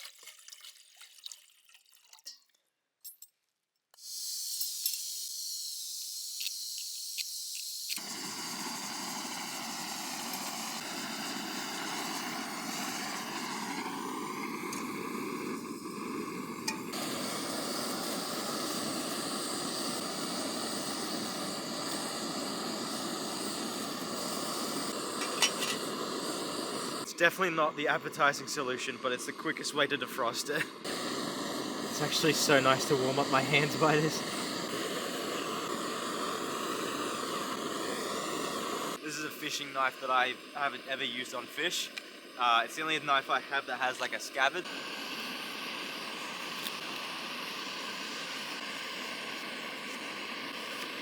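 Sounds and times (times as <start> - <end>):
gas hissing: 3.9 - 51.0
gas burner hissing: 4.0 - 51.0.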